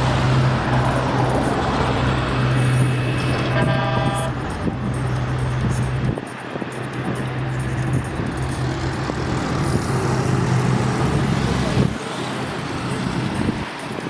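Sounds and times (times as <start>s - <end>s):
truck engine drone: 0.0s - 14.0s
tyre and road noise: 0.0s - 14.0s.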